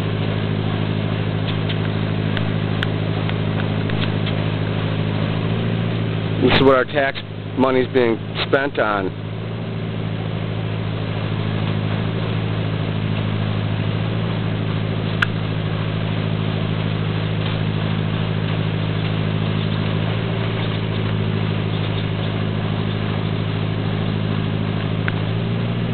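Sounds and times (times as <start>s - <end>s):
engine humming steadily: 0.0s - 25.9s.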